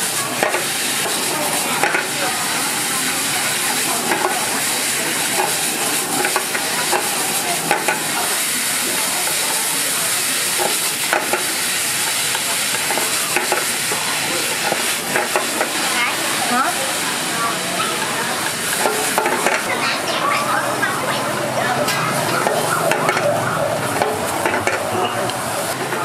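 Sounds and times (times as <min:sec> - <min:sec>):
meat sizzling in frying pan: 0:00.0 - 0:26.0.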